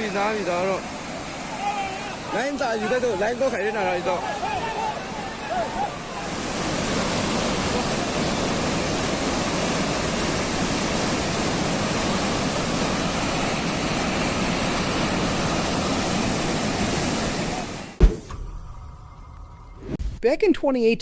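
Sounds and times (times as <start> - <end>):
torrent of water and mud rushing: 0.0 - 18.0.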